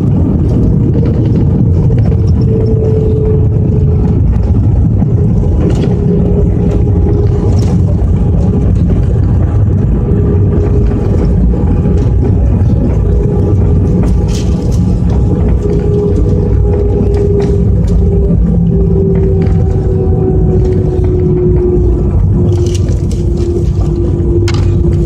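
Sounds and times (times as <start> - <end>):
jet engines roaring in cabin: 0.0 - 25.0.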